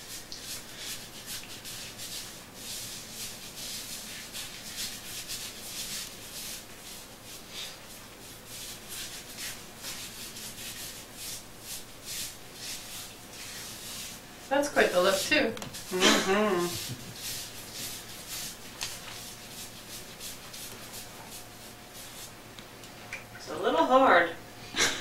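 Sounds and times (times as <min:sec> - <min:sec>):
hands rubbing lather on scalp: 0:00.0 - 0:22.4.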